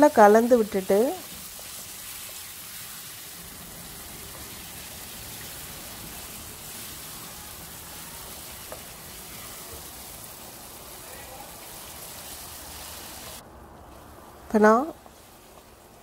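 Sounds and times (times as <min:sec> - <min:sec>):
food sizzling in a pan: 0:00.0 - 0:13.4, 0:14.6 - 0:16.0.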